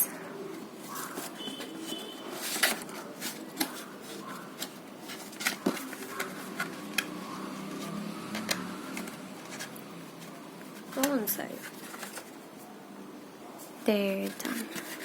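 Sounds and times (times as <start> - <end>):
postcards rustling: 0.0 - 12.8, 13.6 - 15.0.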